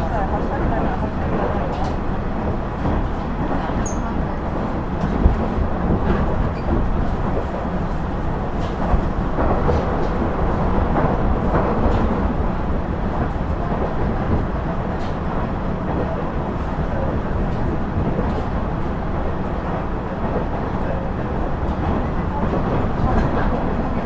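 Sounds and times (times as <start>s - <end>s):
diesel railcar rumbling: 0.0s - 24.0s.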